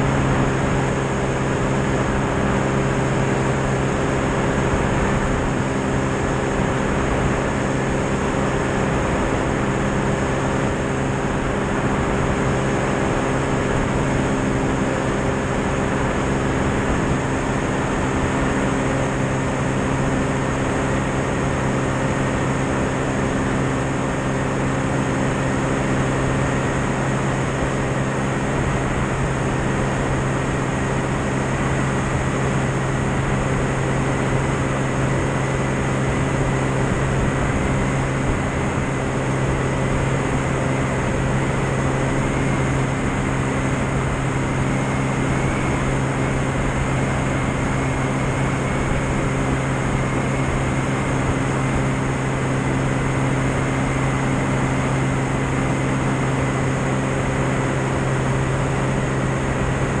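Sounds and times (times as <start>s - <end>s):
aircraft engine and propeller drone: 0.0s - 60.0s.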